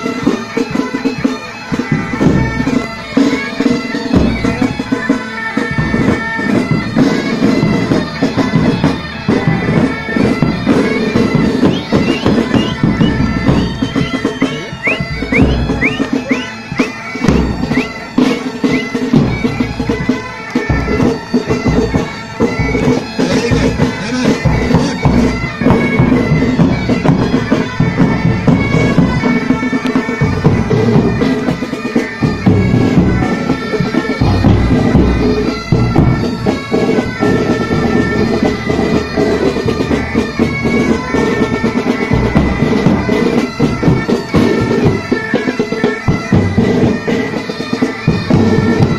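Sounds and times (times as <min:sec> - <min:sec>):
bagpipes playing tune: 0:00.0 - 0:48.9
marching drums: 0:00.0 - 0:48.9.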